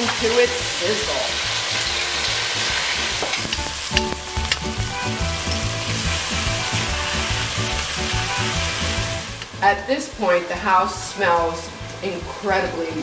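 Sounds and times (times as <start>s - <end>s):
background music: 0.0s - 13.0s
vegetables sizzling in oil: 0.0s - 13.0s.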